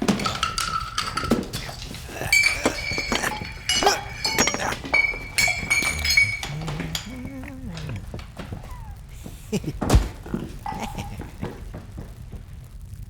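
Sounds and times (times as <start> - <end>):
glass objects clinking together: 0.0 - 12.1.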